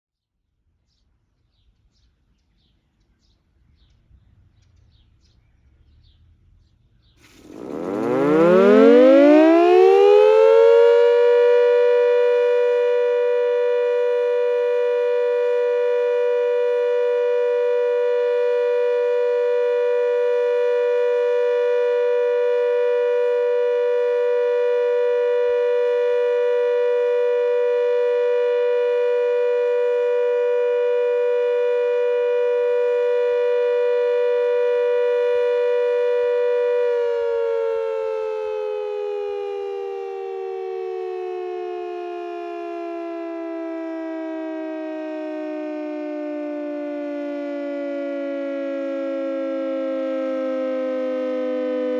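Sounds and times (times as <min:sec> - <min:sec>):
siren wailing: 0:07.4 - 0:51.9.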